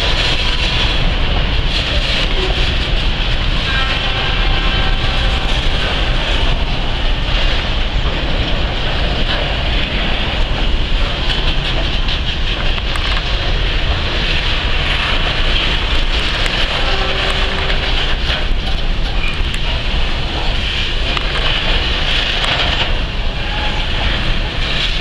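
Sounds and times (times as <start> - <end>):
freight train rumbling past: 0.0 - 25.0
wheels rattling on rails: 0.0 - 25.0.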